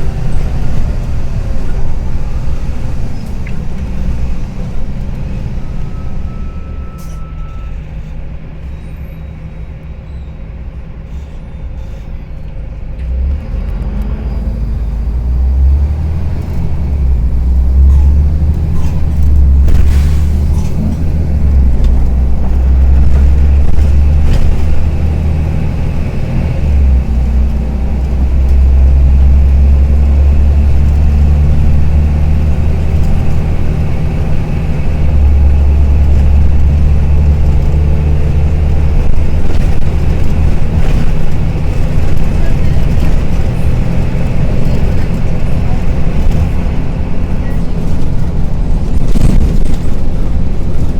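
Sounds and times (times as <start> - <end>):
bus engine clattering: 0.0 - 50.9.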